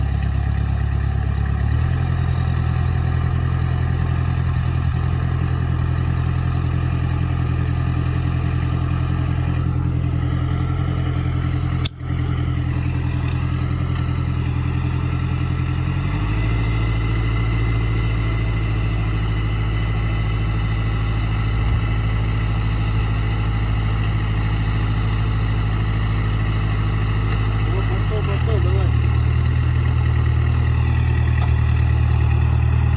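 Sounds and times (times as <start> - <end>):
car engine running under load: 0.0 - 32.9.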